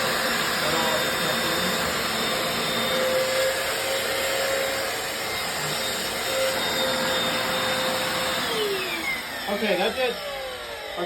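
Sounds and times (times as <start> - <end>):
floor cleaner suction motor whining: 0.0 - 11.0.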